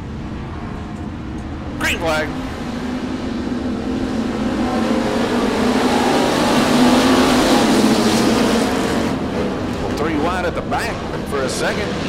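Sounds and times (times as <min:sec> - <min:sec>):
race car engines accelerating: 0:00.5 - 0:12.0.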